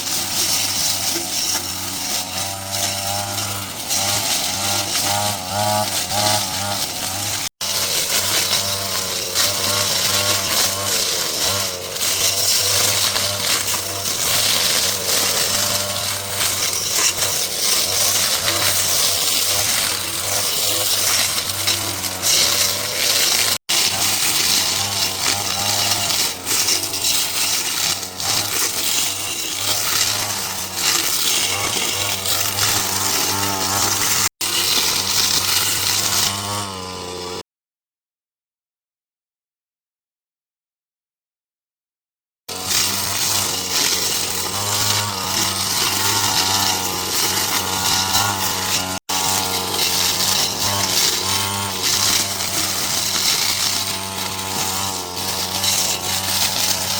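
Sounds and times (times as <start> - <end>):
small power tool engine running: 0.0 - 37.4, 42.5 - 56.9.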